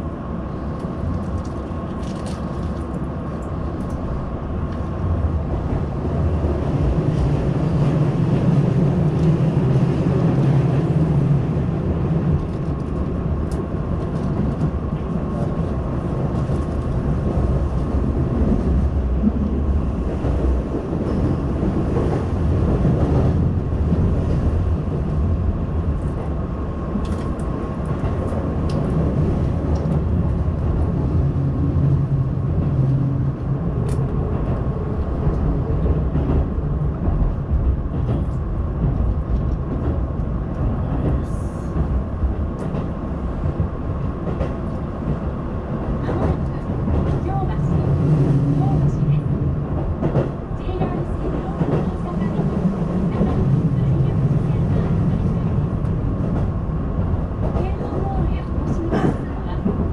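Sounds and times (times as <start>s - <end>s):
wheels rumbling on track: 0.0s - 59.9s.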